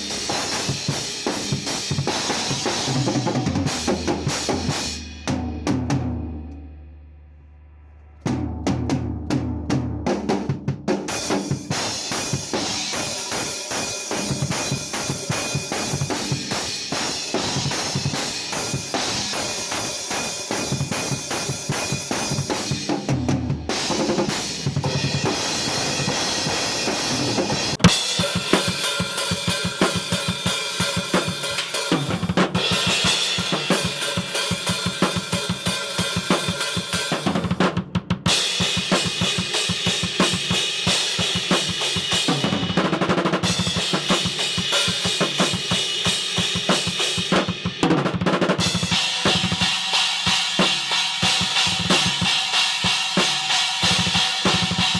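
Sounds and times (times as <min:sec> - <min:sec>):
drum kit playing fast patterns: 0:00.0 - 0:06.2, 0:08.6 - 0:54.9.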